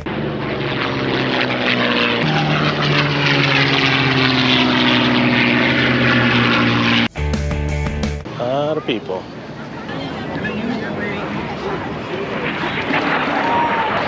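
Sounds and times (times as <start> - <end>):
propeller airplane engine humming: 0.0 - 14.0.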